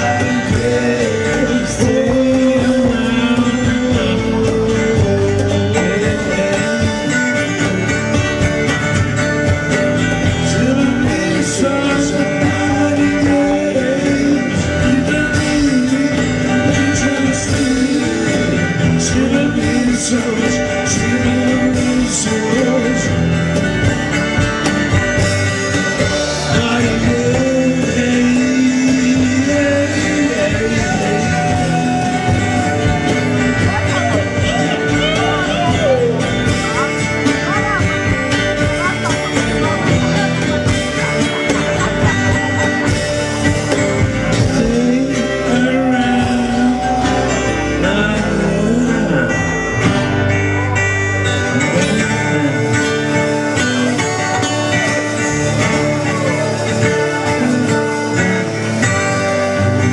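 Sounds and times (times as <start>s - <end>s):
rock and roll band playing: 0.0s - 59.9s.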